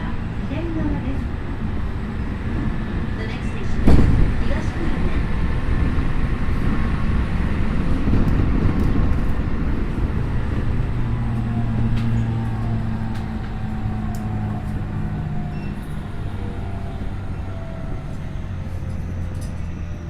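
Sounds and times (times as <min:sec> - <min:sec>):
low hum: 0:00.0 - 0:20.0
train wheels rumbling on rail: 0:00.0 - 0:20.0.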